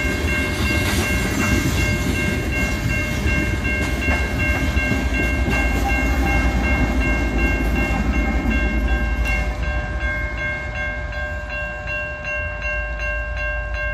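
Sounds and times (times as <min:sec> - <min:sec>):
crossing bell ringing: 0:00.0 - 0:13.9
freight train rumbling past: 0:00.0 - 0:13.9.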